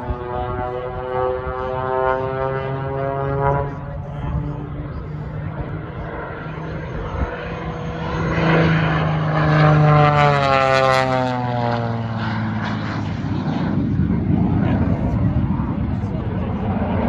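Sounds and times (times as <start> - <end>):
biplane engine drone passing: 0.0 - 17.0.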